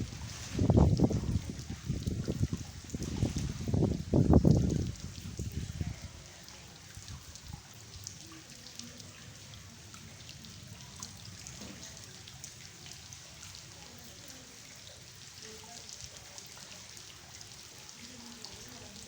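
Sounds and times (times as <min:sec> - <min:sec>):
rain pattering on a floor: 0:00.0 - 0:19.0.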